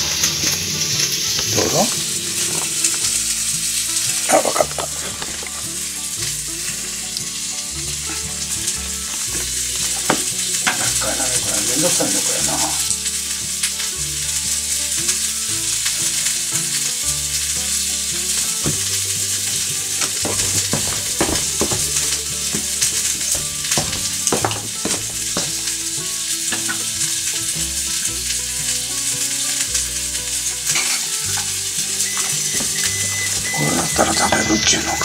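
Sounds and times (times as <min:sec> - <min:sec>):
sizzling with crackles: 0:00.0 - 0:35.0.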